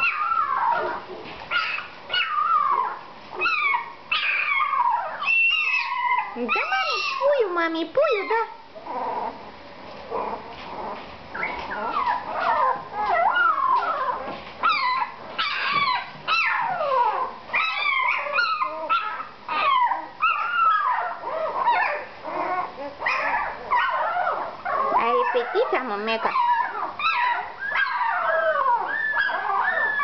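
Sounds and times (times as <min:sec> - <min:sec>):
puppies whimpering and yipping: 0:00.0 - 0:30.0.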